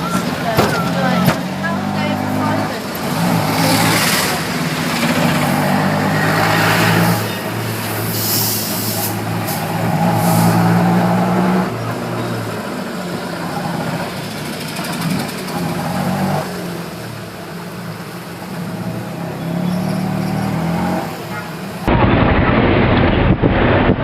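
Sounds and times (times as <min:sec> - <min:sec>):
vehicles passing: 0:00.0 - 0:22.0
steady engine drone: 0:00.0 - 0:23.8
traffic rumble: 0:00.0 - 0:24.0.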